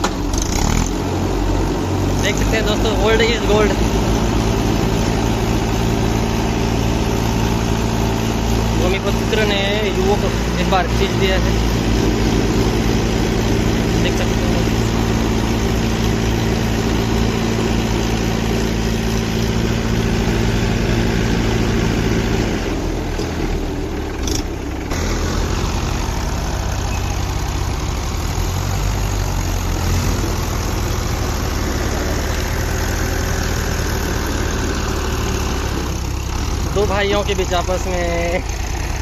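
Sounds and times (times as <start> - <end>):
tractor engines running hard: 0.0 - 39.0.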